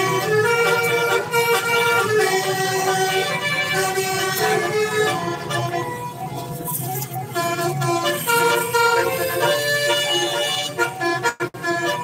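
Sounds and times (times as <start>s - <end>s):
bus musical horn playing a tune: 0.0s - 12.0s.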